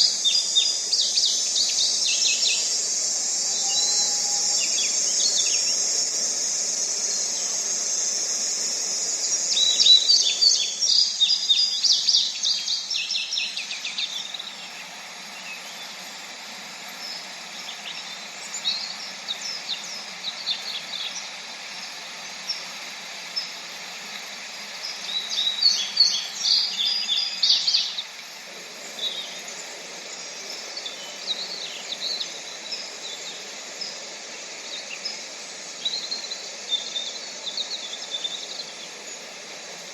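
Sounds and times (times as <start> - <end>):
high steady hiss: 0.0 - 39.9
songbirds singing: 0.0 - 39.9.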